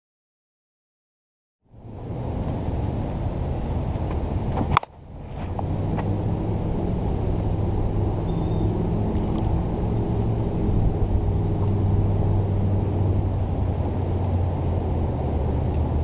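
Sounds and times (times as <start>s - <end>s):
wind buffeting microphone: 1.8s - 16.0s.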